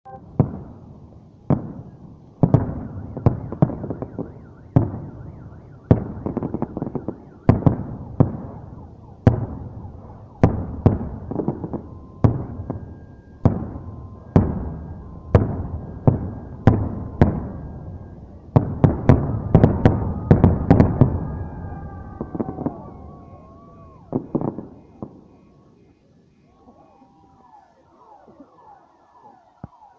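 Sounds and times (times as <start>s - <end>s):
fireworks bursting with bangs: 0.1s - 26.7s
car alarm wailing: 2.7s - 25.0s, 26.5s - 29.9s.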